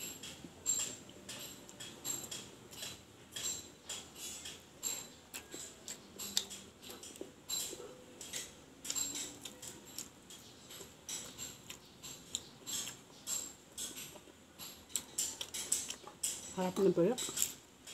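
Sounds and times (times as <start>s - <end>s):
person chewing food: 0.0s - 16.5s, 17.2s - 17.9s.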